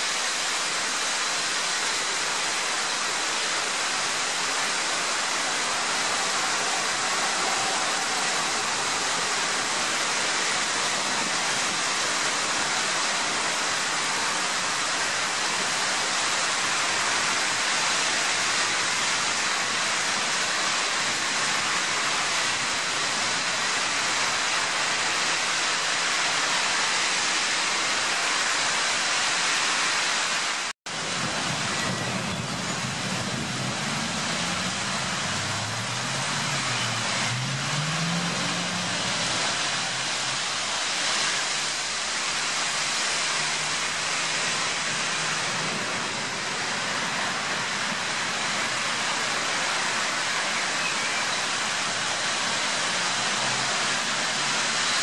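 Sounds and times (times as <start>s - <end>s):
heavy rain on street: 0.0s - 55.0s.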